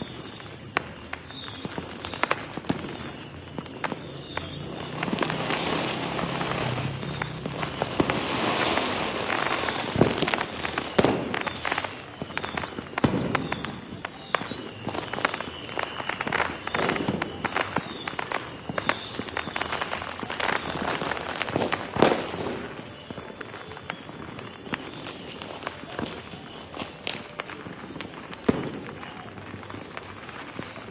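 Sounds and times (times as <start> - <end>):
firework bangs: 0.0 - 30.9
fireworks crackling pops: 0.0 - 30.9.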